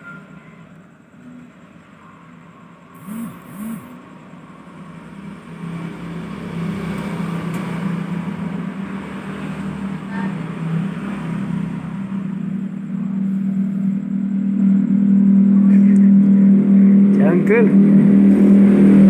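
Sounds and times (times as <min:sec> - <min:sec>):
low motor hum: 0:02.8 - 0:19.0.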